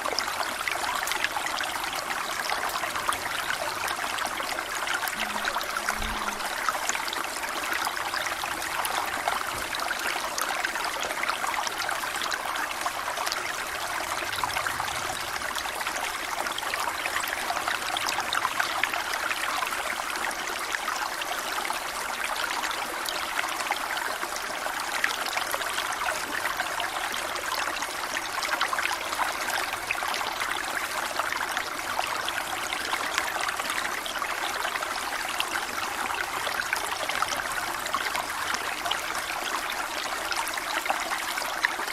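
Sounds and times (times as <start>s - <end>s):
brook babbling over stones: 0.0s - 41.9s.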